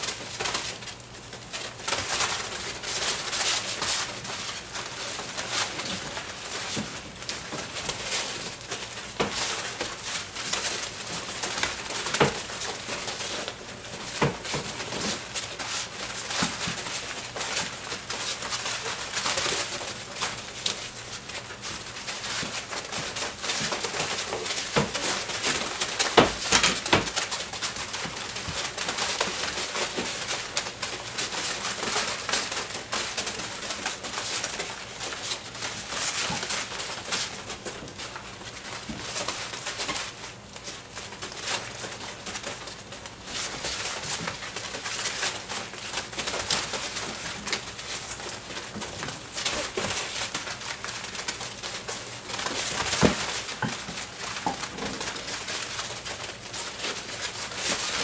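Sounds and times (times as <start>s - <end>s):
paws scratching: 0.0s - 58.0s
wood shavings rustling: 0.0s - 58.0s.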